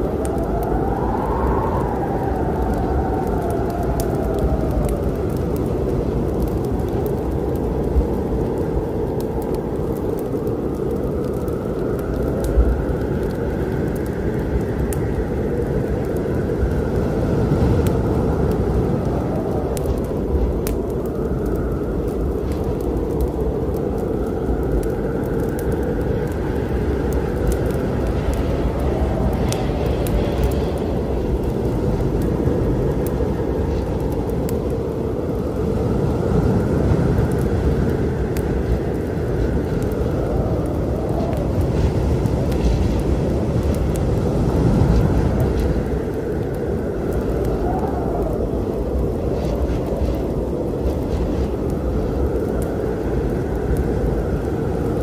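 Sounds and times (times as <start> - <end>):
gusting wind tone: 0.0 - 55.0
low wind rumble: 0.0 - 55.0
wood fire crackling: 0.0 - 55.0.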